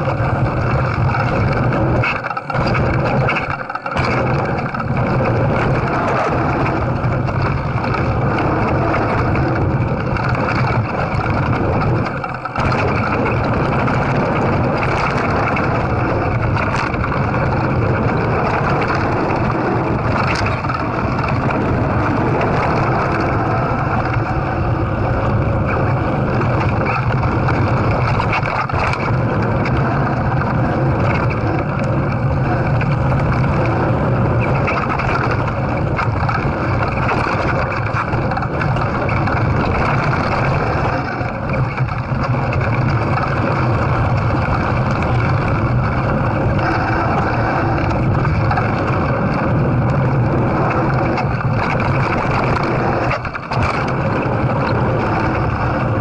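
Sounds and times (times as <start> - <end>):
bike tyres rumbling on dirt: 0.0 - 56.0
wind on microphone: 0.0 - 56.0.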